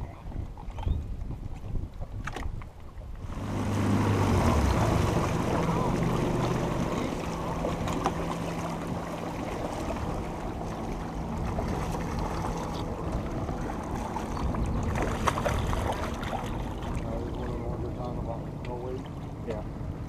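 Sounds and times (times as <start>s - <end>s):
wind on microphone: 0.0s - 18.6s
water slapping against boat: 0.5s - 20.0s
low steady hum: 3.2s - 20.0s.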